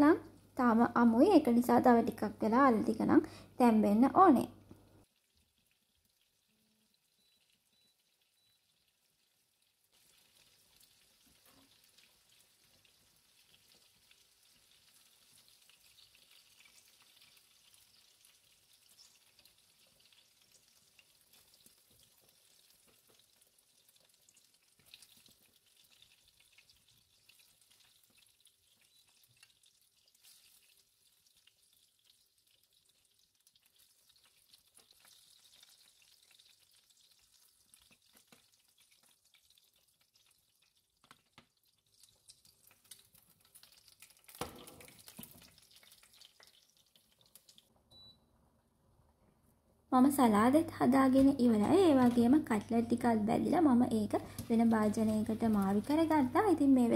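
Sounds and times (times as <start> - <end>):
meat sizzling in oil: 7.1 - 47.7, 50.3 - 56.9.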